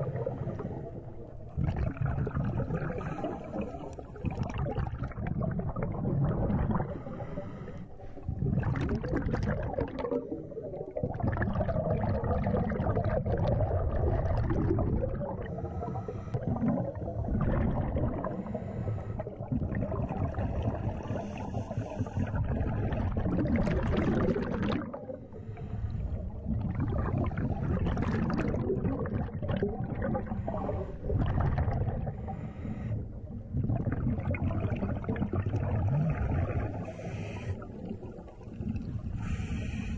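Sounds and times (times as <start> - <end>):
regulator bubbles gurgling underwater: 0.0 - 39.9.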